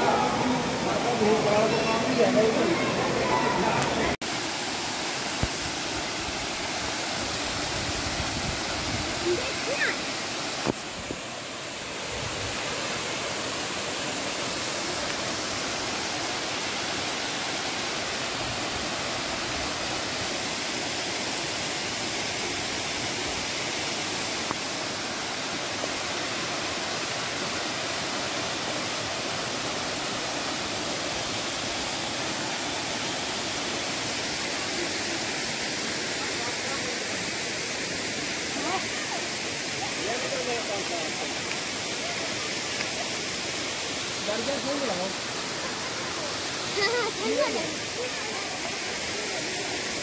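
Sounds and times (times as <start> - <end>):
small waterfall splashing: 0.0 - 50.0.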